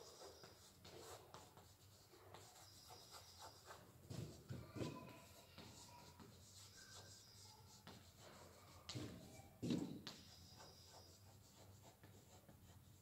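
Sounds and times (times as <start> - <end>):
chalk scratching on chalkboard: 0.0 - 13.0.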